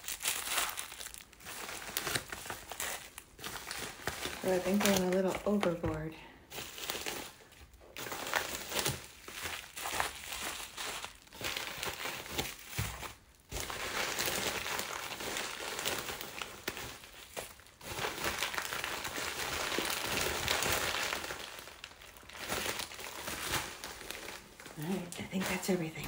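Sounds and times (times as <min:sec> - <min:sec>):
packaging crinkling: 0:00.0 - 0:26.0.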